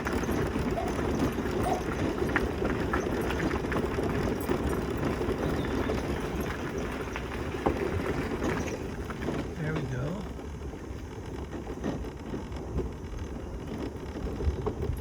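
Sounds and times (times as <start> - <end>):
tyres crunching on gravel: 0.0 - 15.0.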